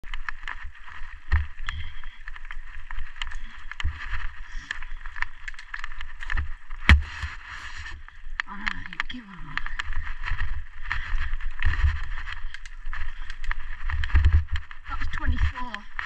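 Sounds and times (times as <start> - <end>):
bike knocking and rattling: 0.0 - 16.0
bike tyres crunching on gravel: 0.0 - 16.0.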